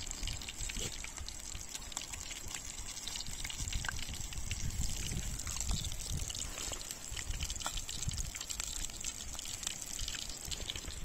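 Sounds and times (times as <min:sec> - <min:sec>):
water trickles and splashes: 0:00.0 - 0:11.0.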